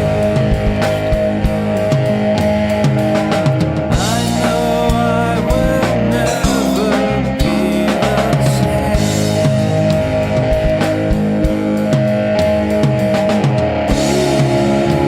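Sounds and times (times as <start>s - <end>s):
rock music with vocals: 0.0s - 15.0s.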